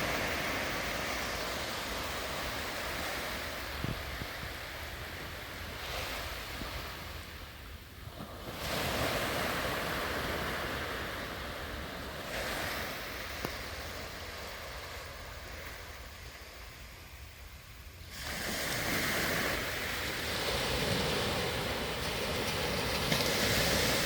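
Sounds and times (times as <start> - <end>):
waves breaking on beach: 0.0 - 17.3, 17.9 - 24.0
low wind rumble on microphone: 0.0 - 24.0.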